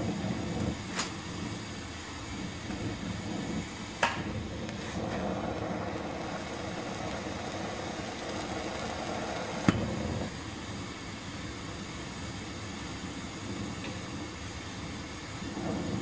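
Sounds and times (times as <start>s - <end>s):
torch flame hissing: 0.0s - 16.0s.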